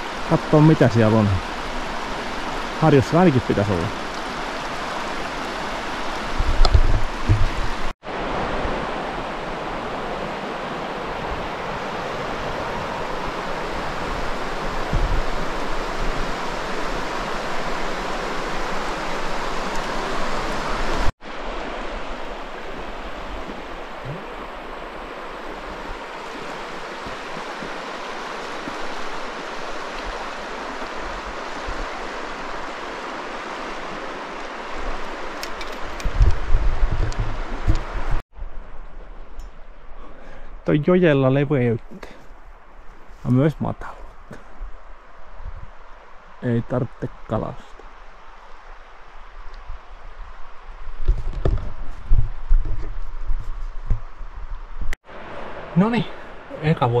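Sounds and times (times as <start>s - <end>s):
rushing river water: 0.0s - 51.4s, 55.0s - 57.0s.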